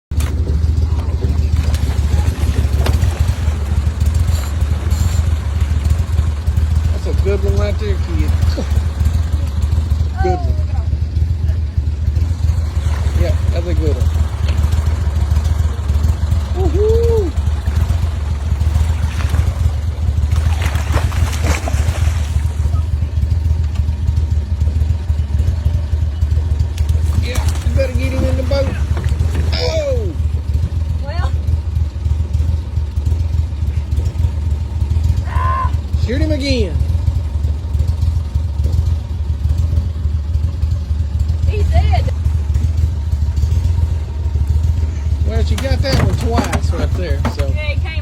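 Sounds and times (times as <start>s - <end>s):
boat motor droning: 0.0s - 48.0s
engine humming: 0.0s - 48.0s.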